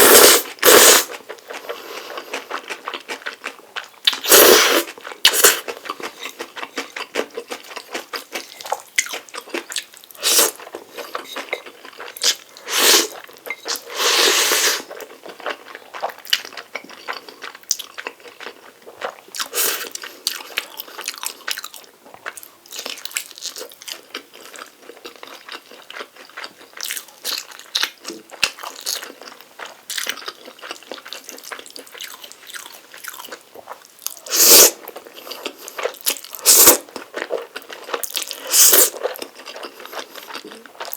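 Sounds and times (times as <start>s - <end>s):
person chewing noodles: 0.0s - 40.9s.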